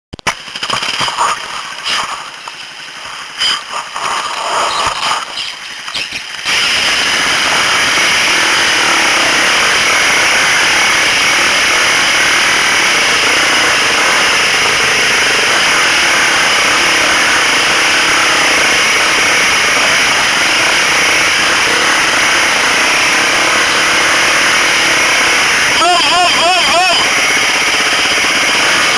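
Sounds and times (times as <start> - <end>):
motorcycle engine and wind rush: 2.0 - 28.9.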